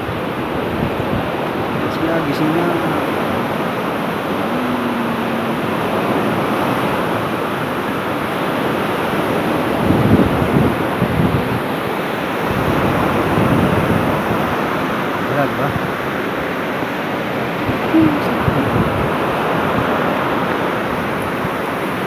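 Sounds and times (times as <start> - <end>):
wind on microphone: 0.0 - 16.1, 17.4 - 22.0
surf breaking on shore: 0.0 - 22.0.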